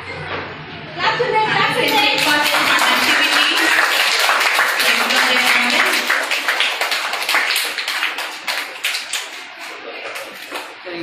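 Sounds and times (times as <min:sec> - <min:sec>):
group of people clapping: 0:01.8 - 0:10.8.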